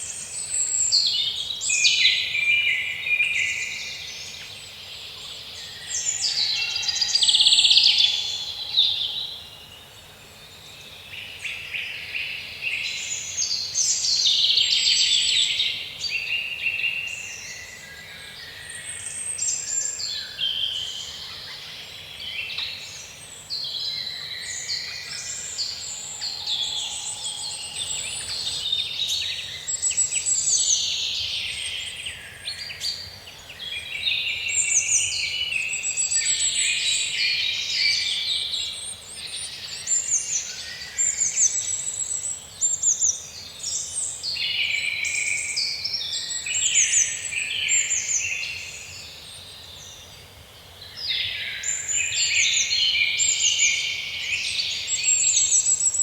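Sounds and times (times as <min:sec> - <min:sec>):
birds singing and calling: 0:10.5 - 0:56.0.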